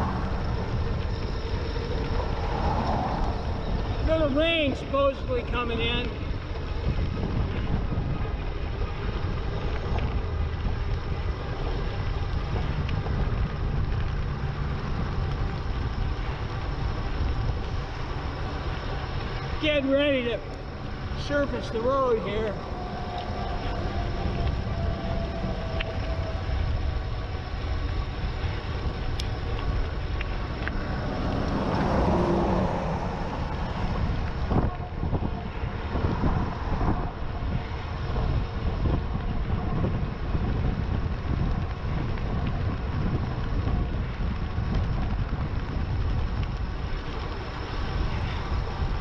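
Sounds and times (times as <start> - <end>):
rolling road noise: 0.0 - 49.0
wind on microphone: 0.0 - 49.0.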